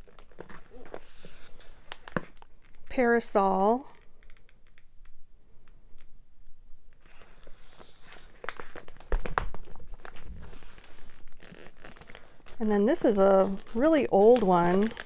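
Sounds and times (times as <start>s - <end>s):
plastic sleeves crinkling: 0.0s - 6.2s, 6.9s - 15.0s.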